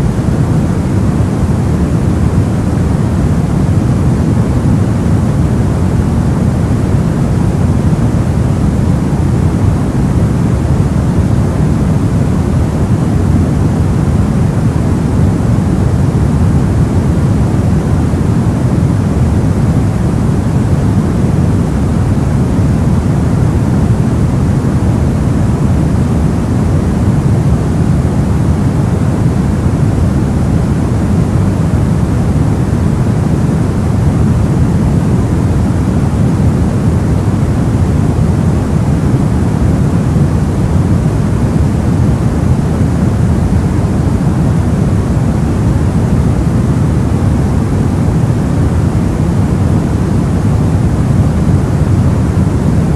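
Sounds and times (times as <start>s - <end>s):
soft white noise: 0.0s - 52.9s.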